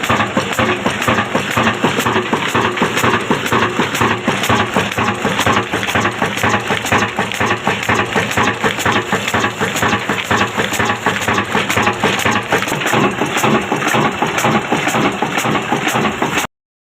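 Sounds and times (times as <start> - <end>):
stationary diesel engine knocking: 0.0 - 16.5.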